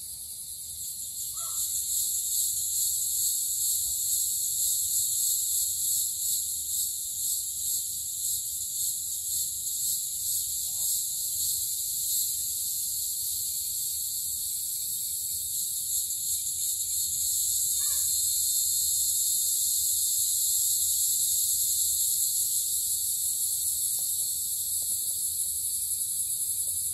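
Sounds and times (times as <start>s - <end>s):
insect chorus trilling: 0.0s - 26.9s.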